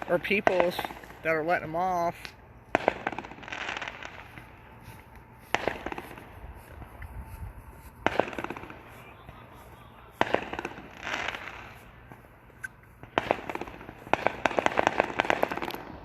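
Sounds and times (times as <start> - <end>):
fireworks cracking and popping: 0.0 - 16.0.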